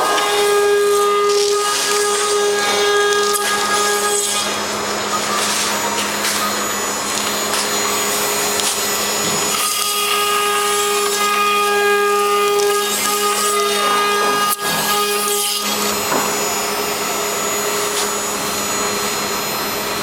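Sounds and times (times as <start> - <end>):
rough plastic cutting noise: 0.0 - 19.0
machine spindle whining: 0.0 - 20.0.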